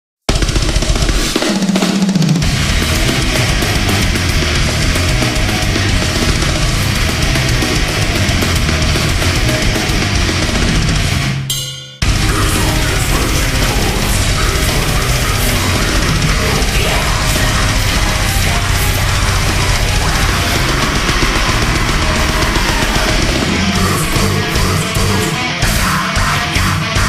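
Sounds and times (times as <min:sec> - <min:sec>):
heavy metal music: 0:00.3 - 0:27.0.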